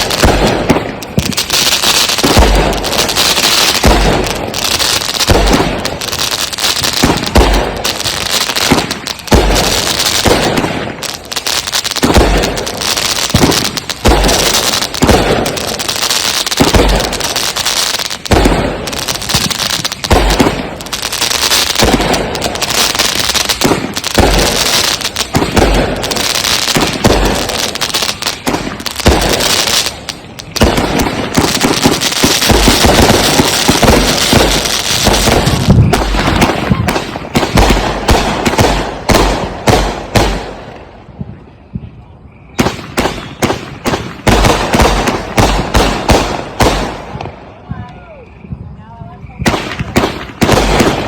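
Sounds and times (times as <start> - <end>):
firework booms: 0.0 - 51.0
firework crackling: 0.0 - 51.0.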